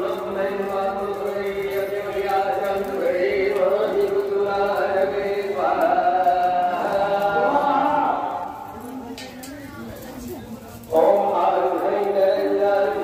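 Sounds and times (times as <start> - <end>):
voices chanting a mantra: 0.0 - 9.0, 10.8 - 13.0.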